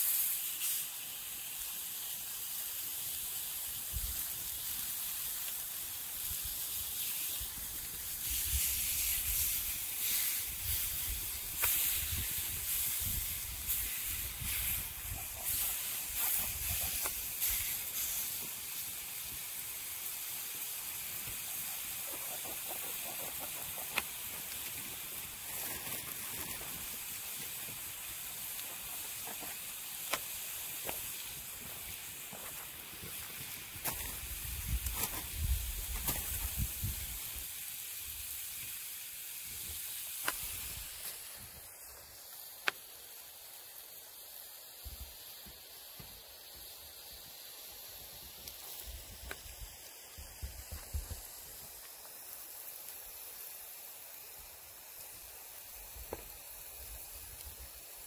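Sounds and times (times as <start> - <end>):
meat sizzling on hot stone: 0.0 - 58.0.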